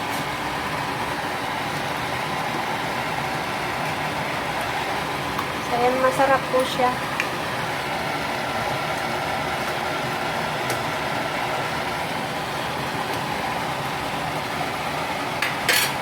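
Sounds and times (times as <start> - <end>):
steady rushing hum: 0.0 - 16.0.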